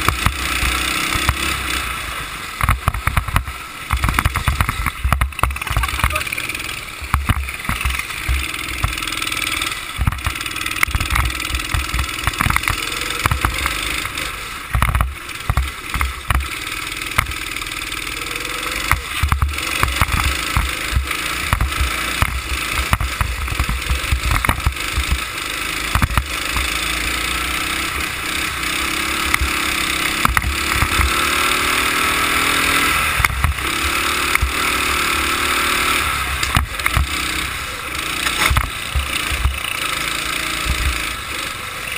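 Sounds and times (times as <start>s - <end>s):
go-kart engine racing: 0.0s - 41.9s.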